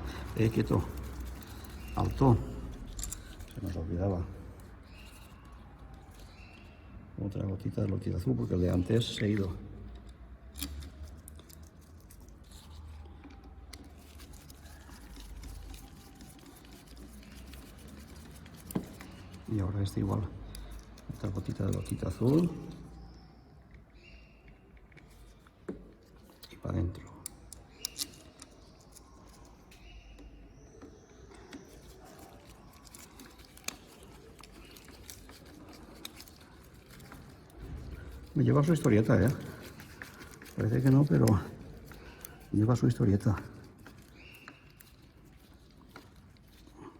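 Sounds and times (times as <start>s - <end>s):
light clicks and rustles: 0.0s - 7.0s, 7.6s - 46.9s.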